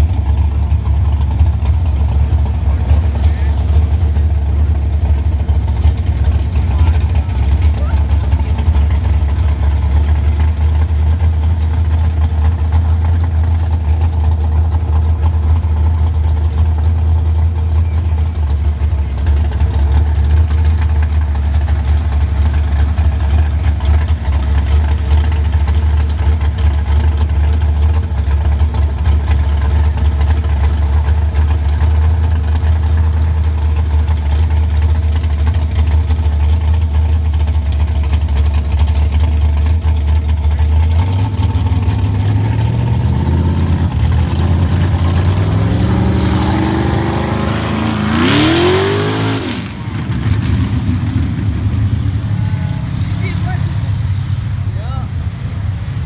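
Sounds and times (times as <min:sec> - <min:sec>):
car engine running steadily: 0:00.0 - 0:56.0.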